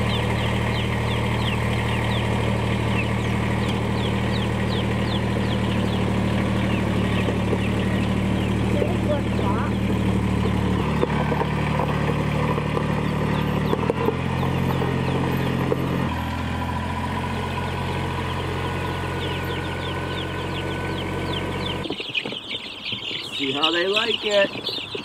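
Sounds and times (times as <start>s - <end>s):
chicks peeping: 0.0s - 16.2s, 17.1s - 25.0s
tractor diesel engine running: 0.0s - 25.0s.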